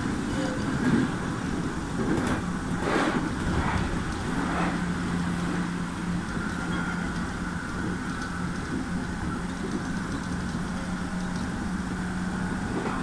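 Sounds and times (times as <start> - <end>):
constant low hum: 0.0 - 13.0
train wheel-on-rail rumble: 0.0 - 13.0.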